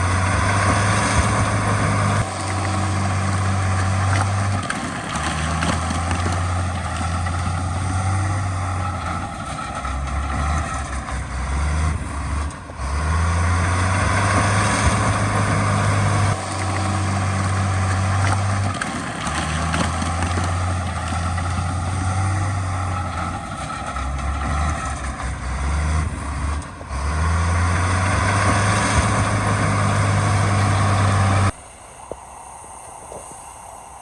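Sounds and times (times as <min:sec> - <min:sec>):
heavy diesel engine running: 0:00.0 - 0:31.6.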